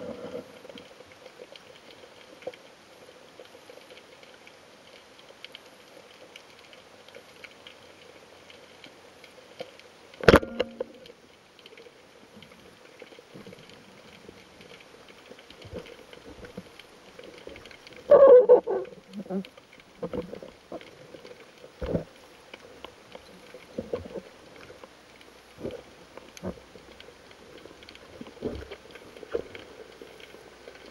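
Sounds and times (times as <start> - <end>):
faint underwater crackle: 0.0 - 30.9.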